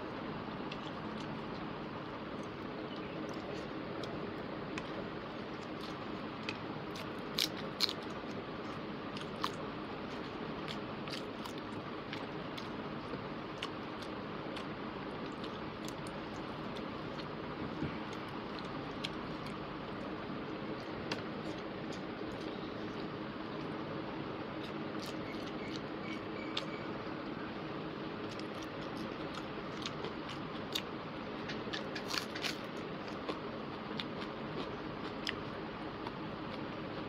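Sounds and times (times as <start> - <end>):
close chewing of food: 0.1 - 26.9, 28.0 - 37.0.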